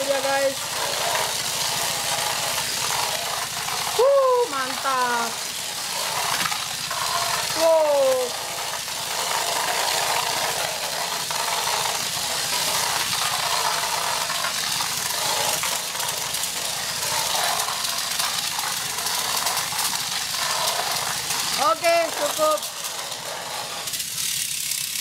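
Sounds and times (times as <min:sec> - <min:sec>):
plastic wheels clattering: 0:00.0 - 0:25.0
small electric motor whirring: 0:00.0 - 0:25.0.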